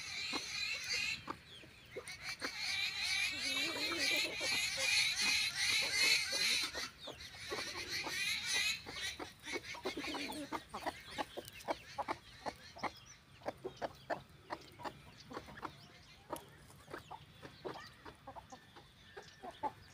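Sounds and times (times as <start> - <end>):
chickens chirping chorus: 0.0 - 19.9
hen clucking: 0.0 - 19.9.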